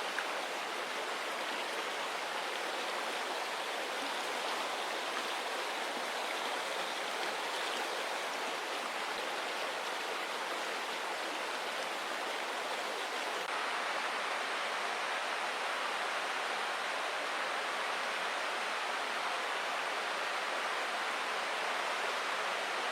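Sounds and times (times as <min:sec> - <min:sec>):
water rushing: 0:00.0 - 0:22.9.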